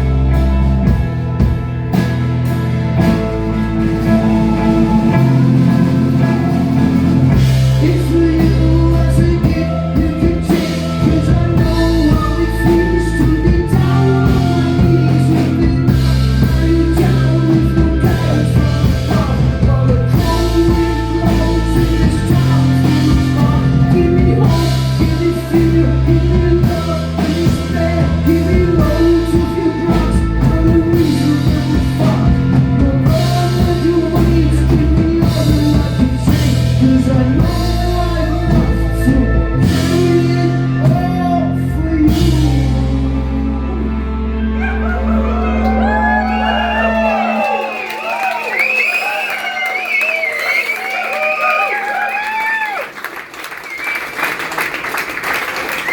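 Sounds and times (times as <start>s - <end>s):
rock band playing live: 0.0s - 51.4s.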